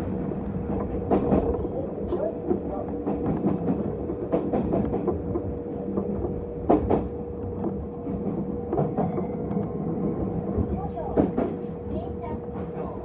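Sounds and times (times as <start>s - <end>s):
train hum and rumble: 0.0s - 13.0s
train wheels clacking over rail joints: 0.0s - 13.0s.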